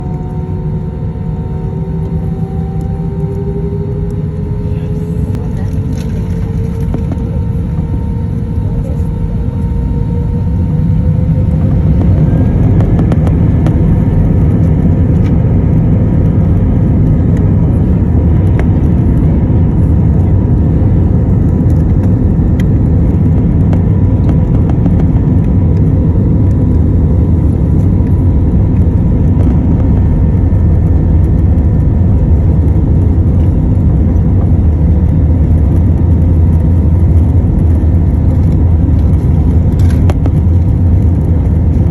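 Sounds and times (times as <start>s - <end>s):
jet engines roaring: 0.0s - 41.9s.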